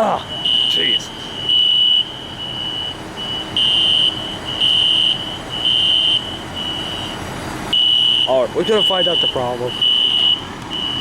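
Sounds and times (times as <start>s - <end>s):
fire alarm pulsing tone: 0.3s - 11.0s.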